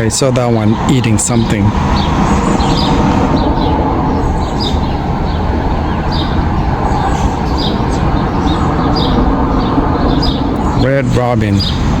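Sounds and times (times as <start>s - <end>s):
birds chirping: 0.0s - 12.0s
loud low rumble: 0.0s - 12.0s.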